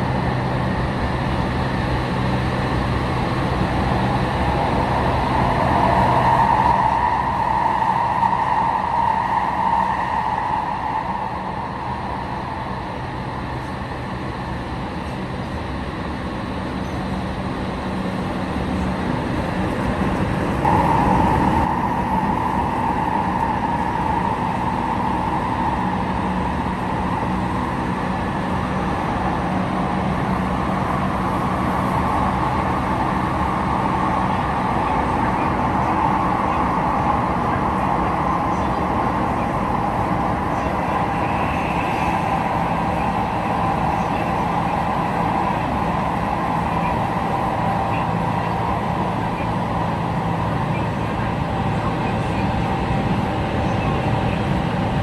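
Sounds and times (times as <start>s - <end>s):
traction motor whine: 0.0s - 14.4s, 17.9s - 53.2s
high-pitched motor whine: 0.0s - 54.6s
wheel and track rumble: 0.0s - 55.0s.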